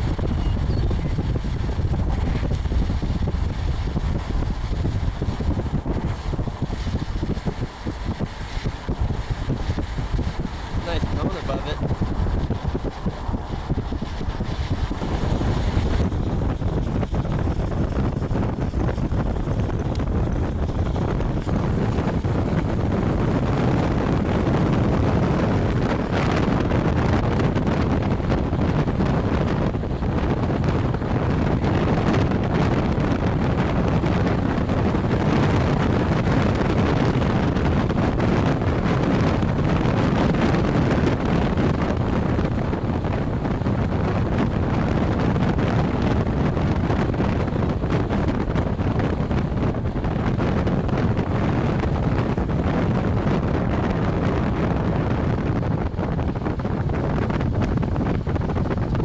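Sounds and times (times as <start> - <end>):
wind rushing on microphone: 0.0 - 59.0.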